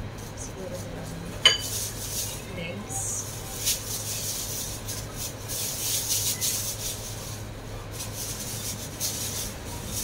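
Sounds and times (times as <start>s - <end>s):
plastic bag crinkling: 1.6s - 10.0s.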